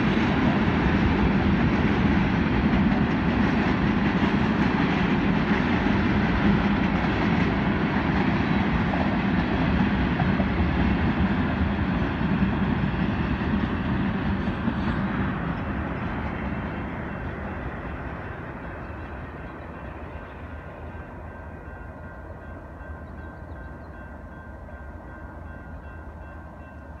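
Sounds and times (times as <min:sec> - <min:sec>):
freight train wheels rumbling: 0:00.0 - 0:27.0.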